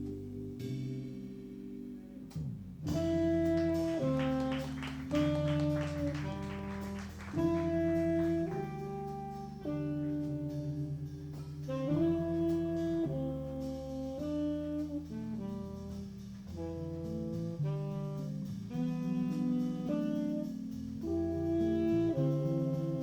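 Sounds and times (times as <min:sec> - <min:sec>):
jazz band playing: 0:00.0 - 0:23.0
saxophone long notes: 0:02.9 - 0:15.9, 0:16.5 - 0:23.0.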